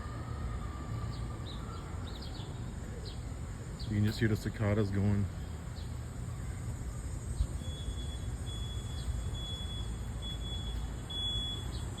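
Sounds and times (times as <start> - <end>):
cicadas droning: 0.0 - 12.0
street traffic rumble: 0.0 - 12.0.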